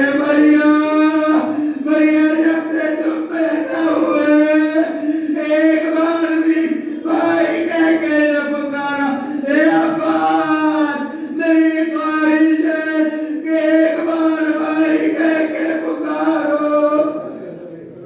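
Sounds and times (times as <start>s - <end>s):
man chanting through a microphone: 0.0s - 18.0s.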